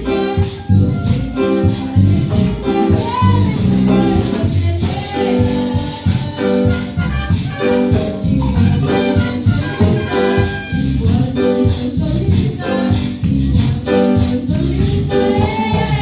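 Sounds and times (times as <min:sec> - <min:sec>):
music with steady beat: 0:00.0 - 0:16.0
woman singing: 0:00.0 - 0:16.0.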